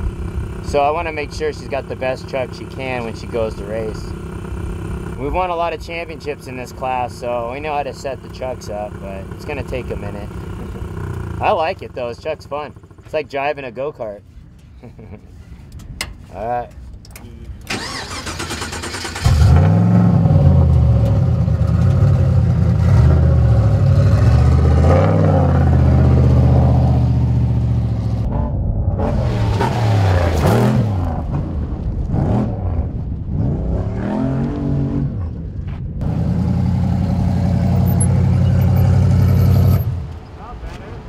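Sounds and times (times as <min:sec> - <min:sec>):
truck engine revving: 0:00.0 - 0:13.1, 0:17.7 - 0:35.4, 0:36.0 - 0:41.0.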